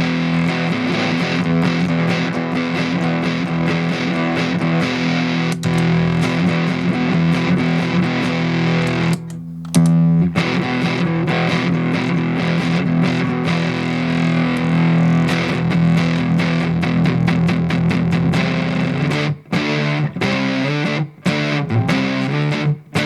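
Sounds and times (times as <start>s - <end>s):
distorted electric guitar riff: 0.0s - 23.0s.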